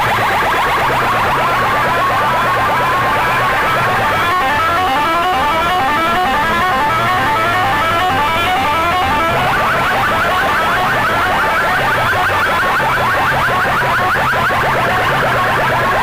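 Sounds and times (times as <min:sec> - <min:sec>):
electronic dance music: 0:00.0 - 0:16.0.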